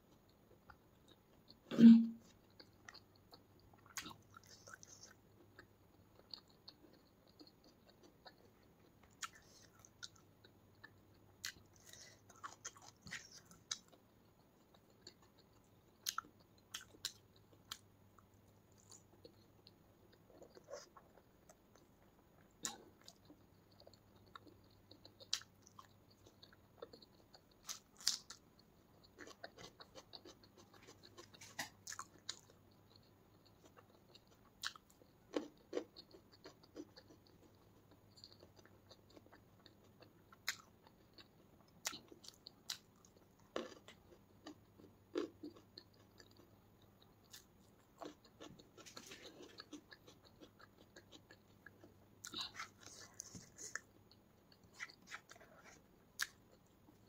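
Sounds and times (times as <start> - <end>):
chewing with wet mouth smacks: 2.4 - 57.0.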